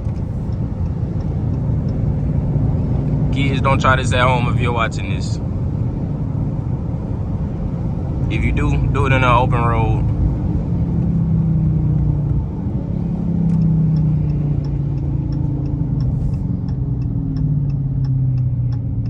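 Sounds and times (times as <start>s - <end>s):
car engine running: 0.0s - 19.0s
turn signal ticking: 0.0s - 19.0s.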